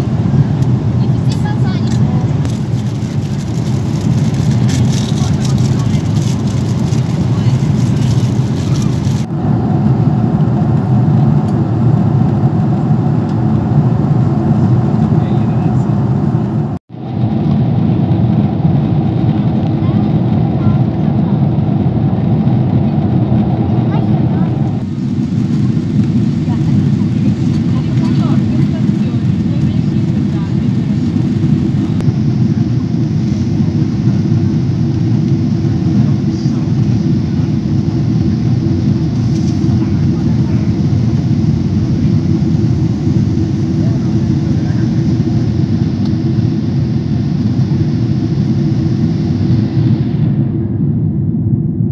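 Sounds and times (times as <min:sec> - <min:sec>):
engine and air drone: 0:00.0 - 0:51.9.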